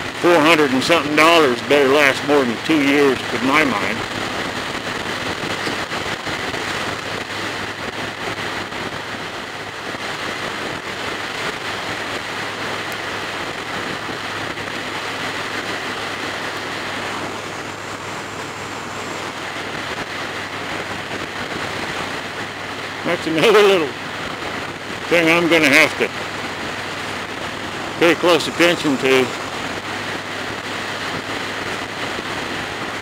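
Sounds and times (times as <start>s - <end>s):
motorcycle engine droning: 0.0s - 33.0s
wind buffeting microphone: 0.0s - 33.0s.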